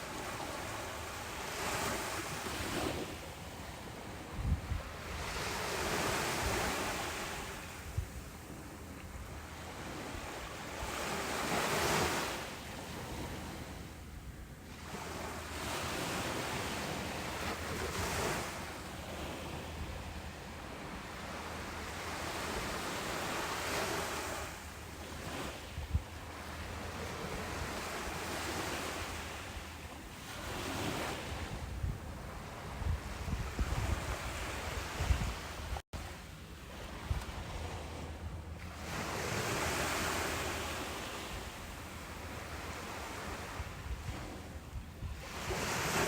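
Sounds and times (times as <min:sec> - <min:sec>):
ocean waves breaking: 0:00.0 - 0:46.0
wind rumble on microphone: 0:00.0 - 0:46.0.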